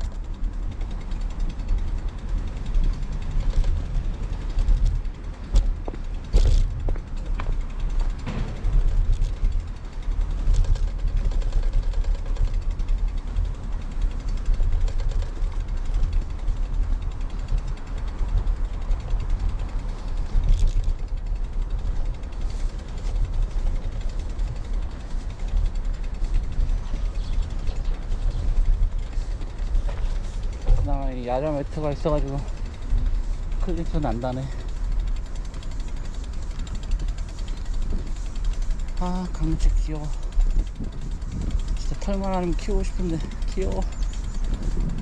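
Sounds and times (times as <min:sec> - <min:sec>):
bike ticking and rattling: 0:00.0 - 0:45.0
wind rumbling on microphone: 0:00.0 - 0:45.0.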